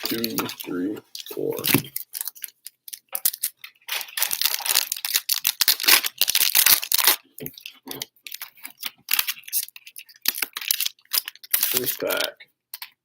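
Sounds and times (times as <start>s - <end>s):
packaging torn and crumpled: 0.0s - 12.9s.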